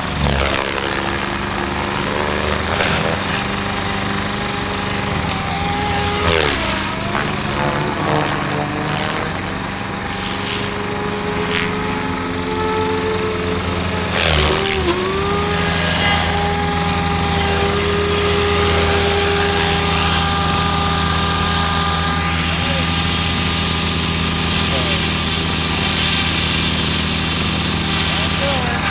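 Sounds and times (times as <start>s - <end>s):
helicopter rotor drone and whooshes: 0.0s - 28.9s
motor and gear whine: 0.0s - 28.9s.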